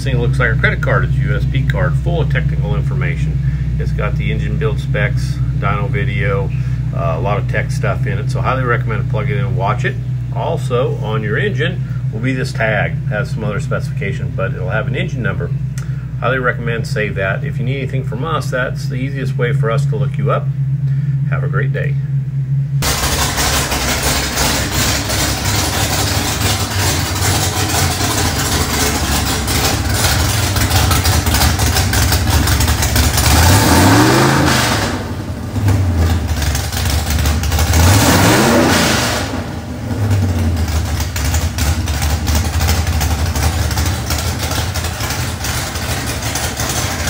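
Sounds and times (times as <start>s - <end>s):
engine idling: 0.0s - 47.0s
engine throttle blips: 0.0s - 47.0s.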